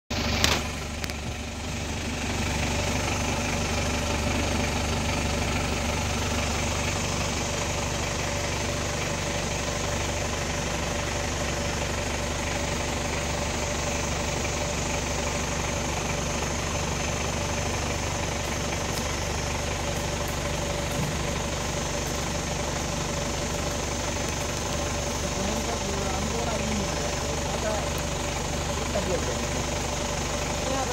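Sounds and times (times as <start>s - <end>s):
vehicle engine idling: 0.1s - 30.9s.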